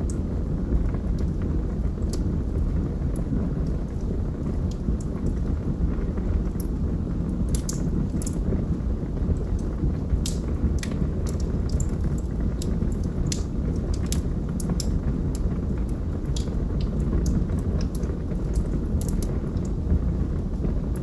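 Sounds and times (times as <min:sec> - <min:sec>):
logs crackling and popping: 0:00.0 - 0:21.0
wood fire burning: 0:00.0 - 0:21.0.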